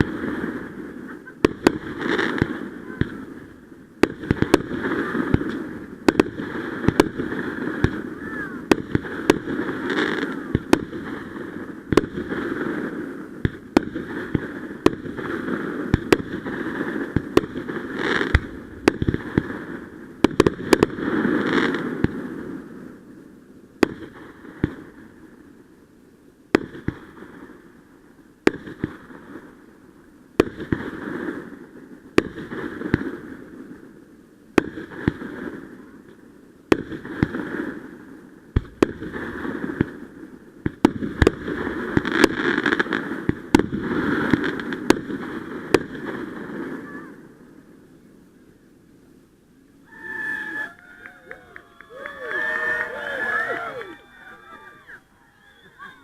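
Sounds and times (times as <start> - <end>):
fireworks bangs: 0.0 - 25.6, 26.5 - 47.8.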